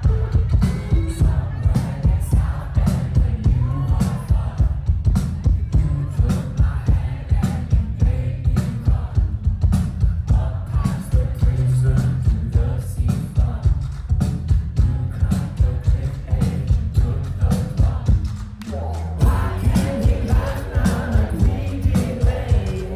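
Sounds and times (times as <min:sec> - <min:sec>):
man singing through speakers: 0:00.0 - 0:09.4, 0:10.2 - 0:13.9, 0:14.8 - 0:18.2, 0:19.2 - 0:22.9
heavy bass: 0:00.0 - 0:22.9
steady drum beat: 0:00.0 - 0:22.9.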